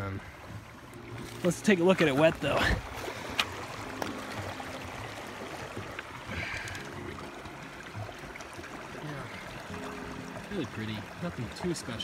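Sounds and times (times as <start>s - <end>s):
river water lapping on cobbles: 0.0s - 12.0s.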